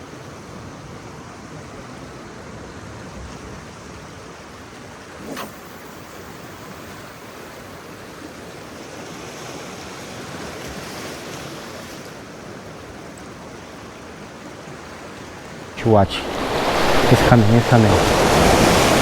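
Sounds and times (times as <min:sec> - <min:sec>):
ocean surf washing on shore: 0:00.0 - 0:19.0.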